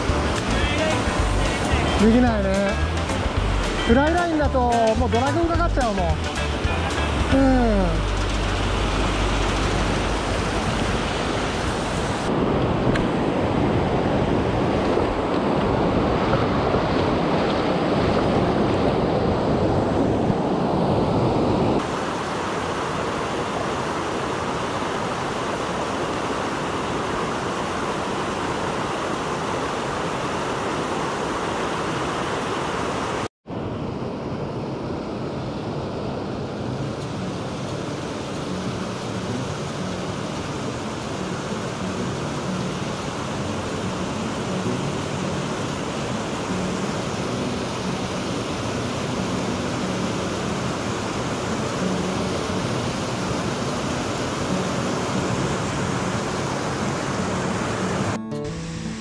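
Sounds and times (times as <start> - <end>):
stream rushing over boulders: 0.0 - 58.2.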